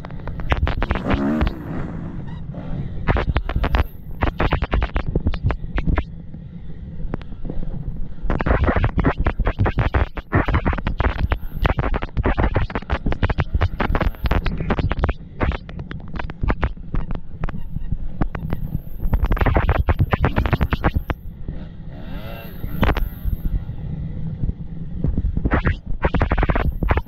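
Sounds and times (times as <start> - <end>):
motorcycle engine running: 0.0 - 8.5, 12.8 - 26.0.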